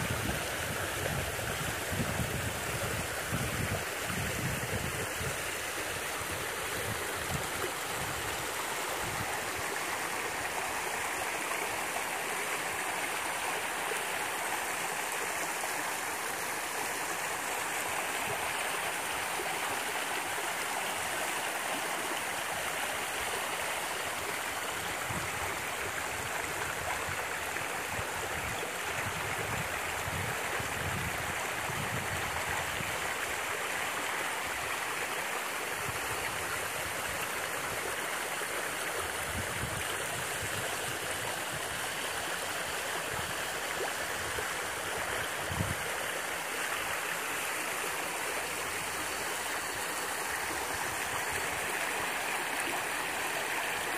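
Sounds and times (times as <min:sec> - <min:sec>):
water rushing over rock: 0:00.0 - 0:53.9.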